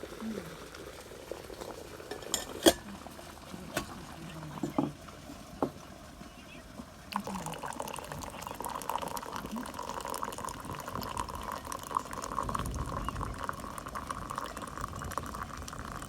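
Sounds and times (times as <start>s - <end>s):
water streaming into a cup: 0.0s - 16.0s.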